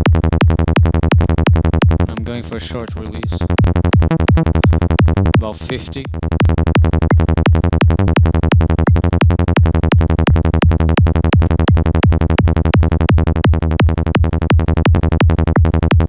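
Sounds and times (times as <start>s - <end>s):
synth bass repeated notes: 0.0s - 16.0s.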